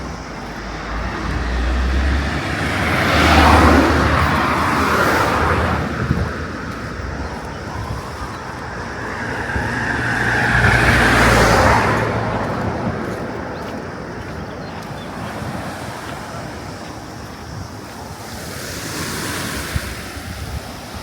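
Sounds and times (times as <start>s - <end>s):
car driving past: 0.0s - 17.2s.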